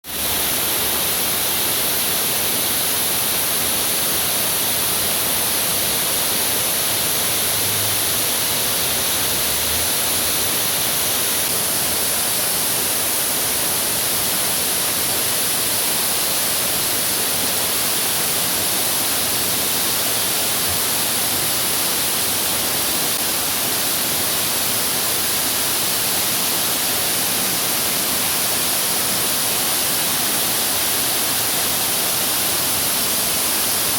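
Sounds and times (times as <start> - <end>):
waterfall hissing: 0.0 - 33.9.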